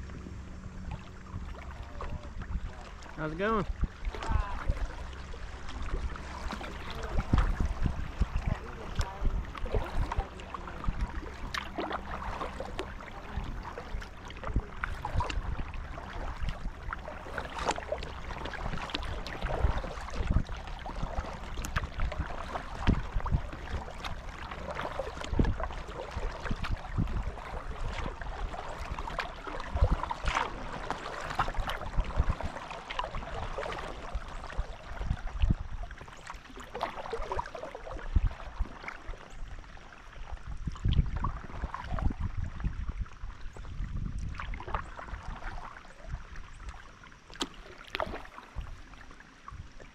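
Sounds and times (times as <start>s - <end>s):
kayak paddle splashing: 0.0s - 49.9s
water trickling along hull: 0.0s - 49.9s.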